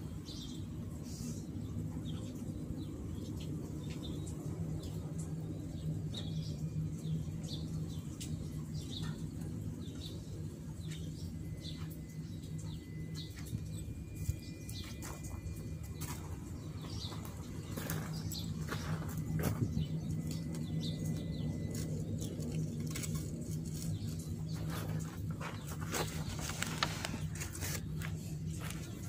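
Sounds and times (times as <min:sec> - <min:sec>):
low machine hum: 0:00.0 - 0:29.0
small birds chirping: 0:00.0 - 0:29.0.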